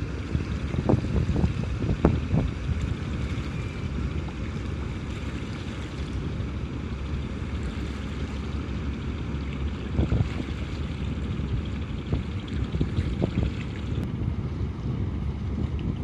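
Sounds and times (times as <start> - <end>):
wind on microphone: 0.0 - 6.6, 7.5 - 16.0
boat motor rumbling: 0.0 - 16.0.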